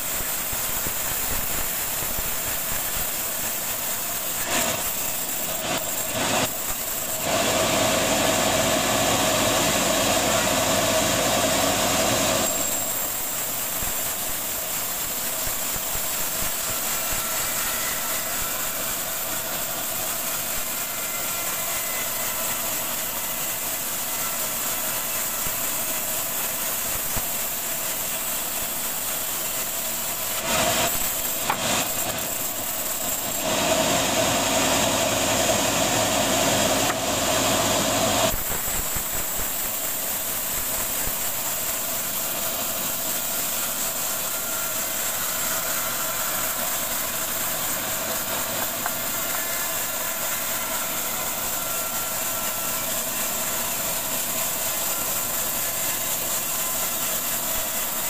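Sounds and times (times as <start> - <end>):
saw blade cutting log: 0.0 - 58.0.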